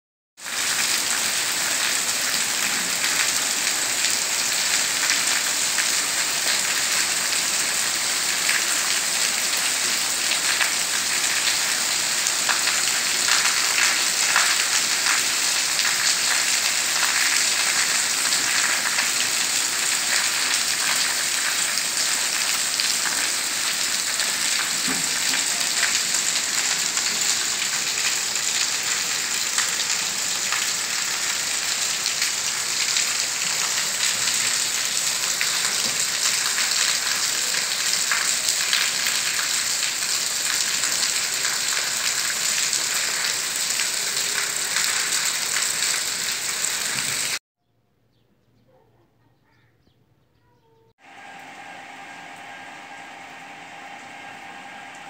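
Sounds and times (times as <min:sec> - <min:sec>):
heavy rain on pavement: 0:00.4 - 0:47.4.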